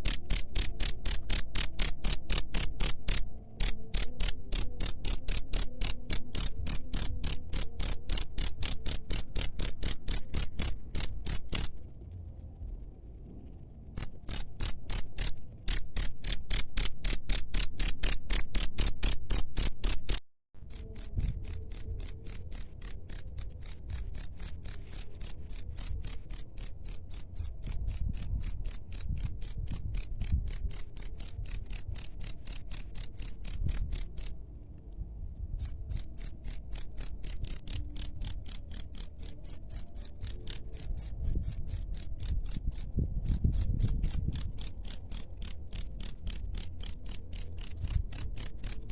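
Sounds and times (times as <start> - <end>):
cricket chirping: 0.0 - 48.9.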